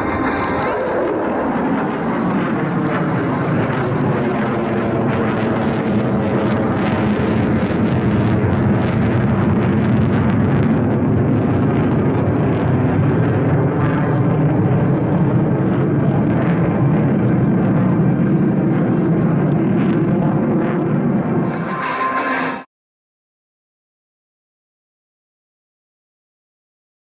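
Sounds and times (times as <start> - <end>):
fighter jet flying past: 0.0 - 22.7.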